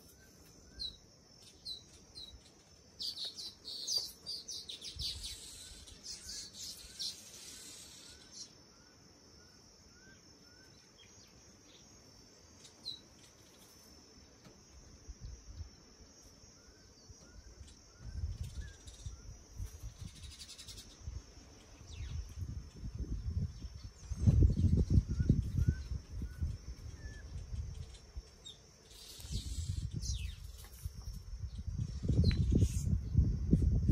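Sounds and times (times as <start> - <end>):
bird chirping: 0.0 - 14.5, 15.2 - 33.3
insect buzz: 0.0 - 33.9.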